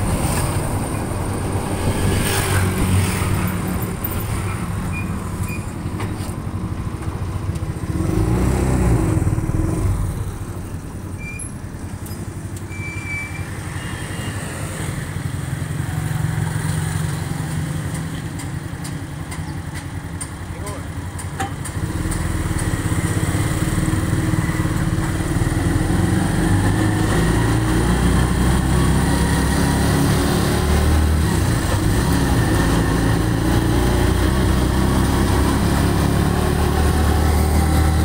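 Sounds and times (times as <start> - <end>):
traffic passing: 0.0 - 38.0.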